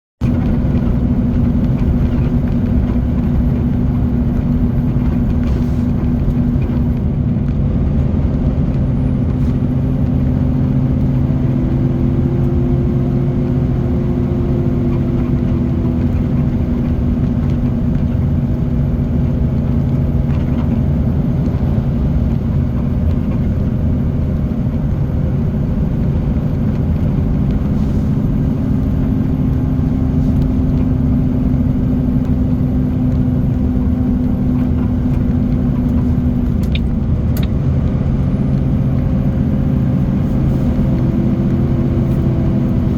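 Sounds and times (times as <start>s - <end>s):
diesel truck engine under heavy load: 0.2s - 42.9s.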